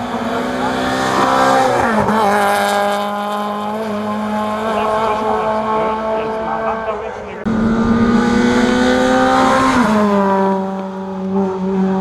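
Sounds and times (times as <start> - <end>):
rally car engine passing by: 0.0 - 12.0.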